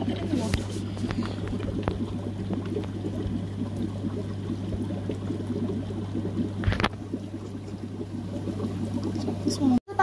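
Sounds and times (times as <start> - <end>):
steady low hum: 0.0 - 10.0
water trickling and bubbling: 0.0 - 10.0.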